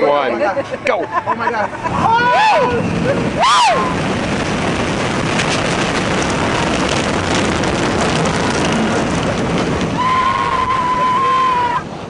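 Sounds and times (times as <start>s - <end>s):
roller coaster train rumbling: 0.0s - 12.0s
wind rushing on microphone: 0.0s - 12.0s.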